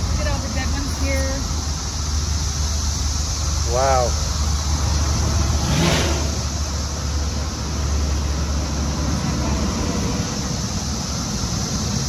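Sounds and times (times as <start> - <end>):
cicadas droning: 0.0 - 12.0
highway traffic rumble: 0.0 - 12.0.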